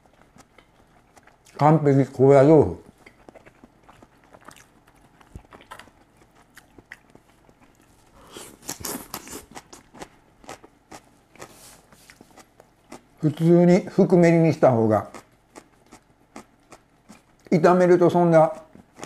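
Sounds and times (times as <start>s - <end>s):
person chewing crunchy food: 0.0s - 13.5s, 15.0s - 17.5s, 18.5s - 19.0s.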